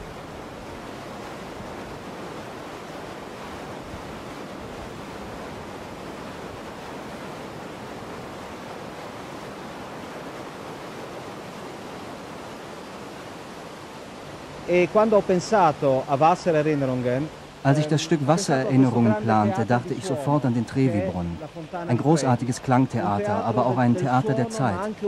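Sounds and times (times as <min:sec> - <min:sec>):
rushing white water: 0:00.0 - 0:25.0.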